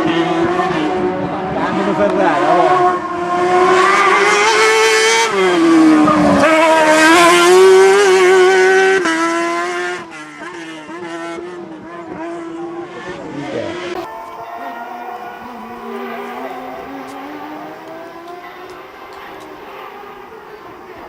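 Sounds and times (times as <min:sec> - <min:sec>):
race car engine at full throttle: 0:00.0 - 0:21.0.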